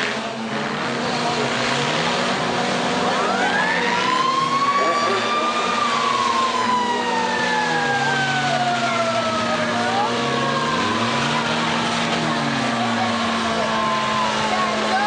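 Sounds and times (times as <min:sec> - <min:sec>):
car engines whining: 0:00.0 - 0:15.0.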